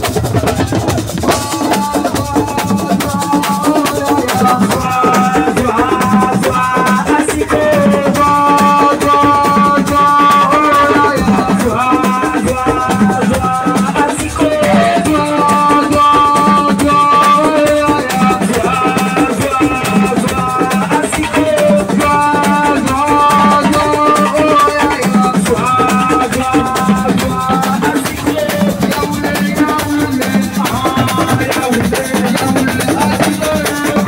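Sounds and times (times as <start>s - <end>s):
drums beating: 0.0s - 34.0s
held melody line: 0.0s - 34.0s
shaken rattles: 0.0s - 34.0s.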